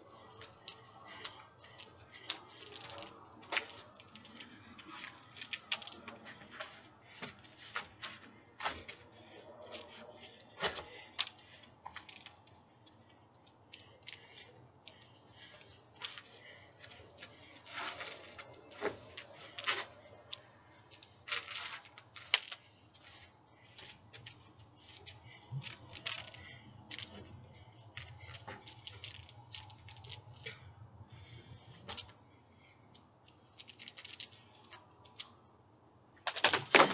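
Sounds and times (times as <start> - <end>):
hula hoop swishing and clicking: 0.0 - 30.6, 33.2 - 35.4
faint low hum: 0.0 - 36.3.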